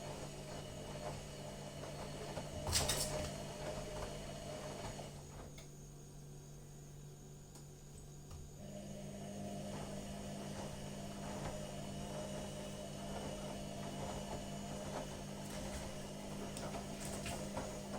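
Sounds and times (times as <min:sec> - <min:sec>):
washing machine motor hum: 0:00.0 - 0:17.9.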